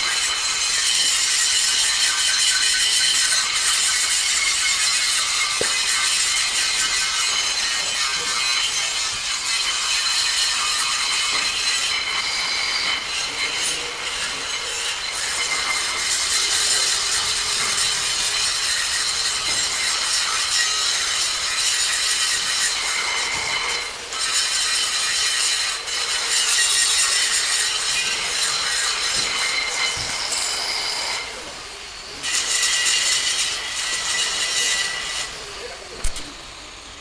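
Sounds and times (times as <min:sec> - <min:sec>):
power tool grinding metal: 0:00.0 - 0:37.0.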